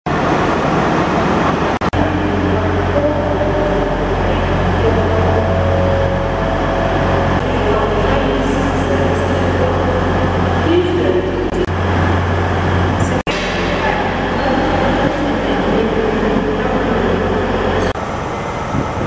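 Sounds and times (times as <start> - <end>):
diesel engine idling: 0.1 - 19.0
held higher tones: 2.0 - 18.1.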